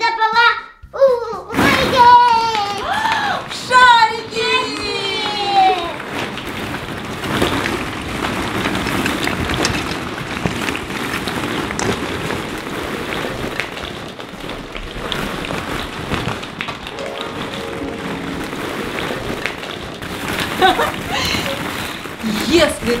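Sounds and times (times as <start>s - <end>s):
plastic balls clattering: 1.5s - 23.0s.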